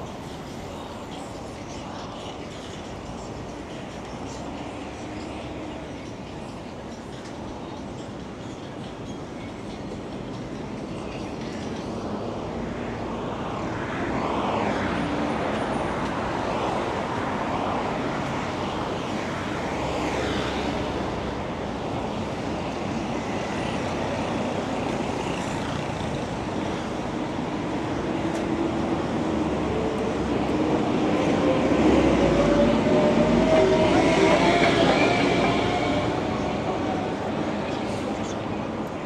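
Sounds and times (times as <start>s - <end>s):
road traffic: 0.0s - 39.0s.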